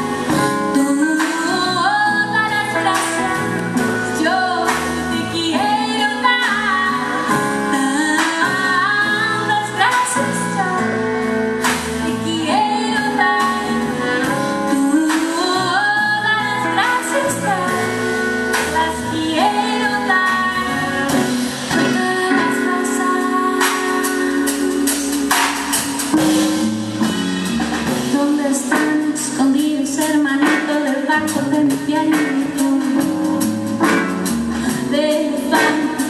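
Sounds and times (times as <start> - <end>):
band with keyboard bass and guitar: 0.0 - 36.0
woman singing folk song: 0.2 - 11.1, 12.0 - 25.3, 28.1 - 33.4, 34.6 - 36.0.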